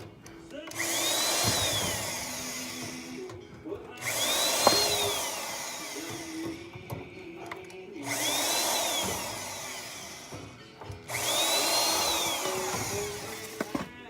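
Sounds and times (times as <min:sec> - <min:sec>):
power drill motor whine: 0:00.6 - 0:07.0, 0:08.0 - 0:14.0.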